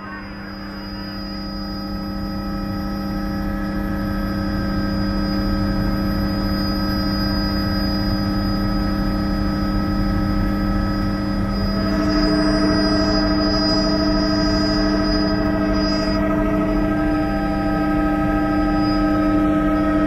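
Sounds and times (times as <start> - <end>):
helicopter rotor rumble: 0.0 - 20.0
helicopter turbine whine: 0.0 - 20.0.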